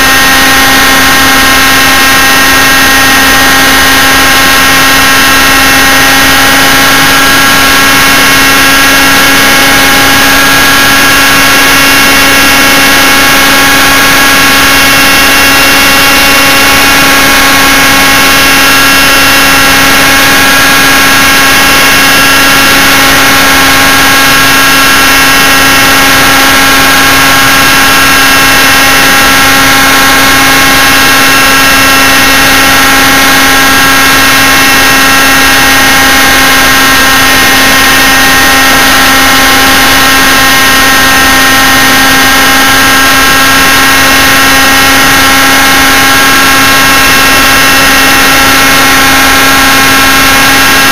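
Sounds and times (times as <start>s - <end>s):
model helicopter engine and rotor: 0.0s - 50.9s.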